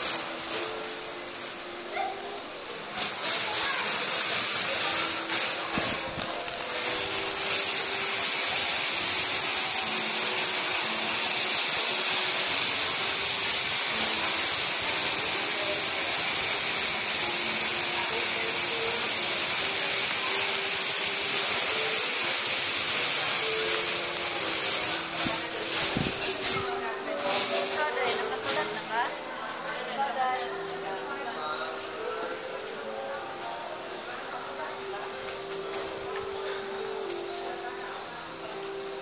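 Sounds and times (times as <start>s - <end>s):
high-pitched hiss: 0.0s - 39.0s.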